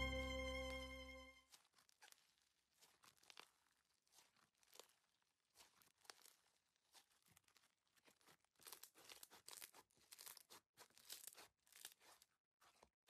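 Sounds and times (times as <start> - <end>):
crunchy slime crackling: 1.5 - 13.0.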